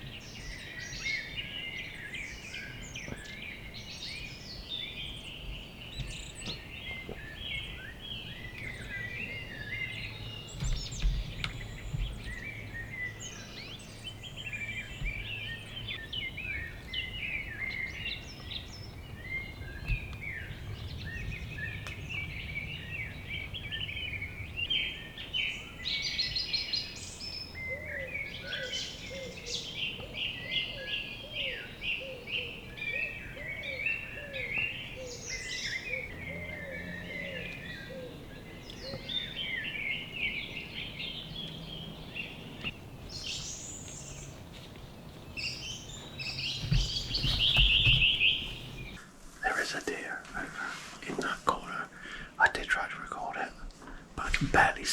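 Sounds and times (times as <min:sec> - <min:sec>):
birds singing: 0:00.0 - 0:50.5, 0:51.1 - 0:54.9.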